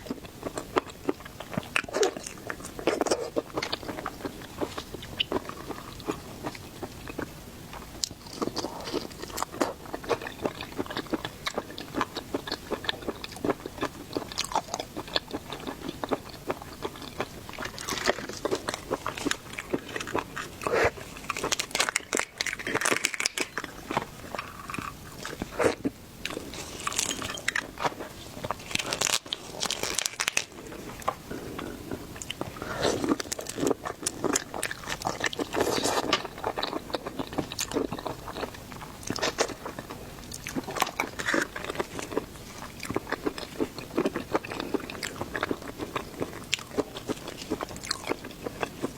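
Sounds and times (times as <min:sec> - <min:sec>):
person chewing and crunching: 0:00.0 - 0:48.9.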